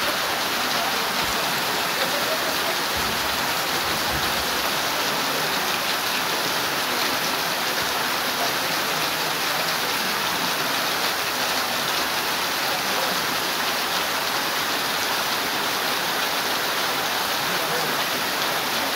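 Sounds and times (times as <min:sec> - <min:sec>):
heavy rain on a wet road: 0:00.0 - 0:18.9.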